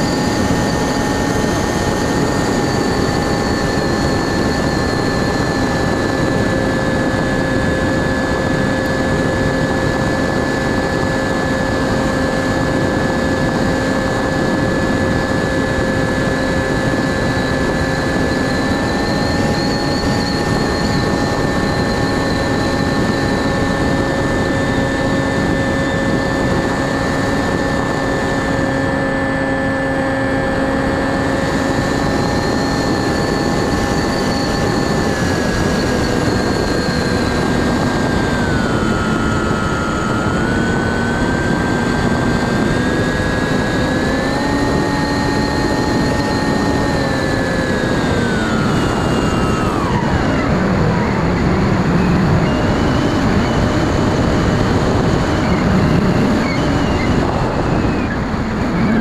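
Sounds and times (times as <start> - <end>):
electric motor whine: 0.0 - 59.0.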